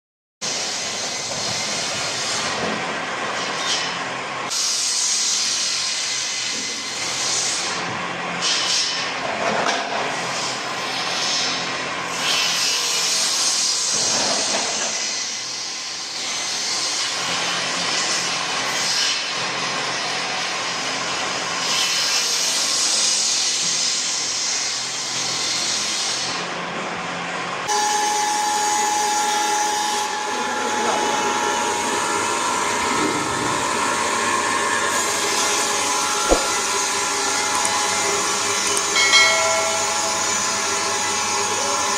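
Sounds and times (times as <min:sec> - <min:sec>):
sawmill cutting wood: 0:00.4 - 0:41.9.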